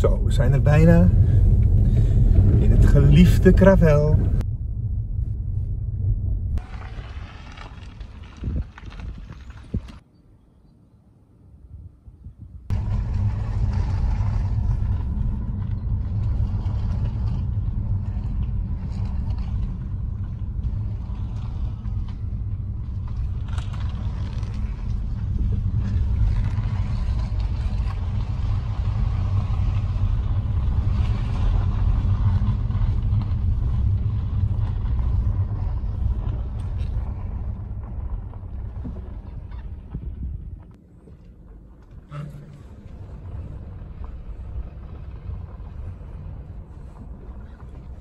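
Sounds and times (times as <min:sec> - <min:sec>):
car engine rumble: 0:00.0 - 0:10.1, 0:11.2 - 0:48.0
road noise: 0:00.0 - 0:48.0.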